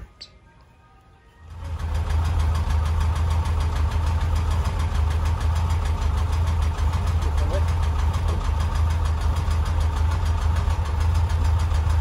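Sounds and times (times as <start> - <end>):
air-cooled engine idling: 1.4 - 12.0.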